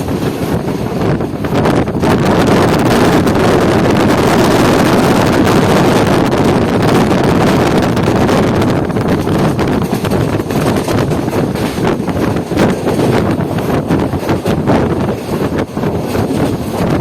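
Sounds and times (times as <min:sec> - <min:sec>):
train coaches rumbling on track: 0:00.0 - 0:17.0
wind buffeting microphone: 0:00.0 - 0:17.0.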